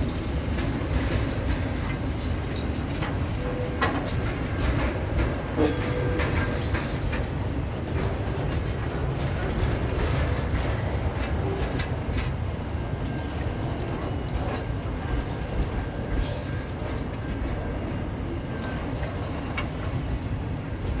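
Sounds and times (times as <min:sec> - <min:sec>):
train wagons clanking: 0:00.0 - 0:21.0
train wheels rumbling on rail: 0:00.0 - 0:21.0.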